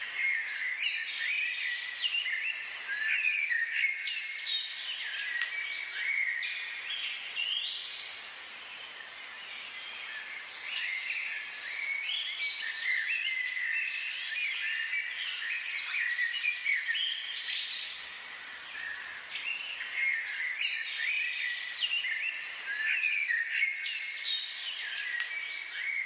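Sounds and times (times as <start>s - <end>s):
small birds chirping: 0.0s - 26.0s
steady hiss: 0.0s - 26.0s.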